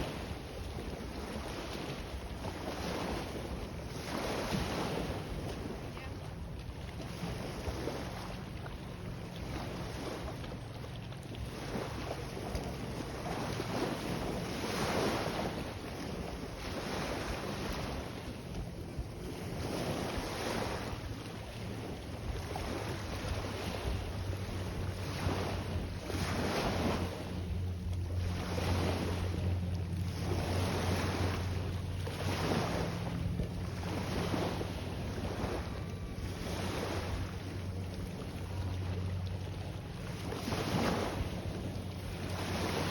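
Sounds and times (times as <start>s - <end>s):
sea waves washing and lapping: 0.0s - 42.9s
wind buffeting microphone: 0.0s - 42.9s
steady low rumble: 3.2s - 42.9s.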